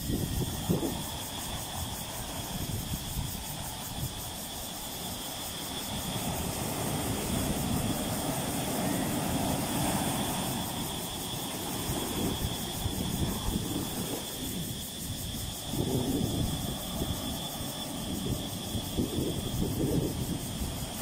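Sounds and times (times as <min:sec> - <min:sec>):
surf washing around boulders: 0:00.0 - 0:21.0.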